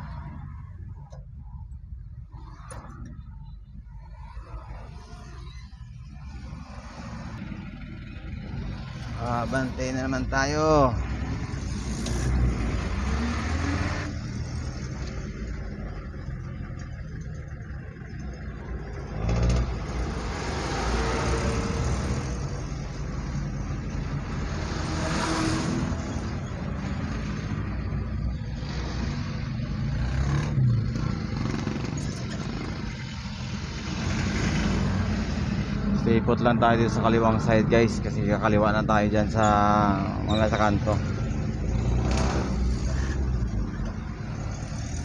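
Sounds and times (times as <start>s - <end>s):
car engine and road rumble: 0.0s - 45.0s
vehicles passing: 0.0s - 45.0s.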